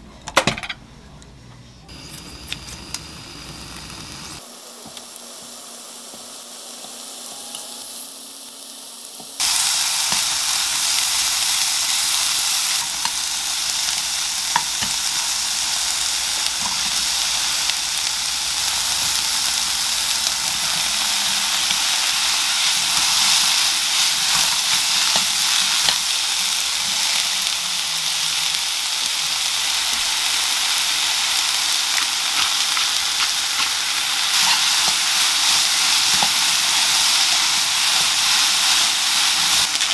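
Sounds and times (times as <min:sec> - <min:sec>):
meat sizzling in a frying pan: 0:01.9 - 0:39.9.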